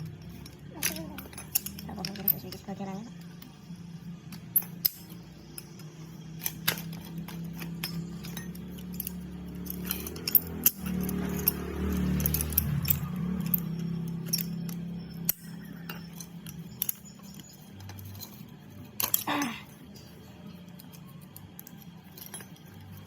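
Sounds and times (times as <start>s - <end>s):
metallic clinks and rattles: 0.0s - 23.0s.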